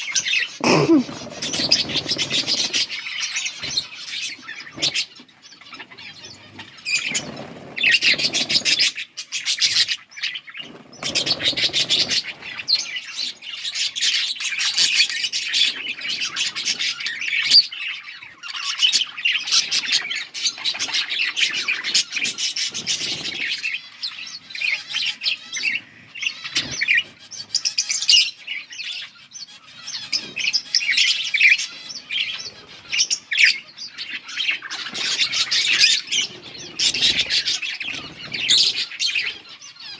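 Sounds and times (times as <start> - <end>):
budgerigars chirping: 0.1 - 39.9.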